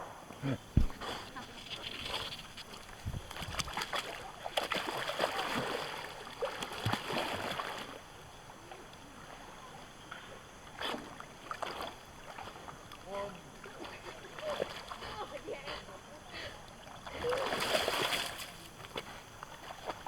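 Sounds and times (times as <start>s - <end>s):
water splashing and sloshing: 0.0s - 16.0s, 16.6s - 20.0s.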